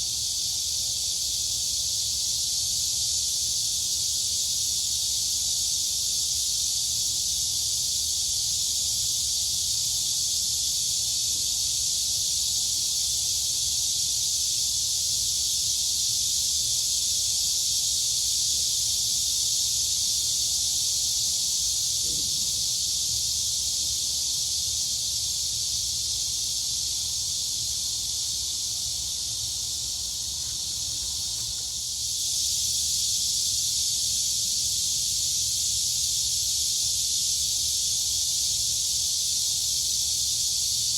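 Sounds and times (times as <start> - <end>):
crickets and cicadas buzzing: 0.0 - 40.9.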